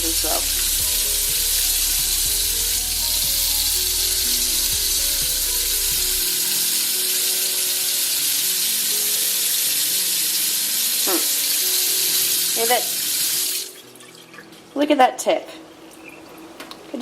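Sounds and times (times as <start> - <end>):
tap water running into sink: 0.0 - 14.6.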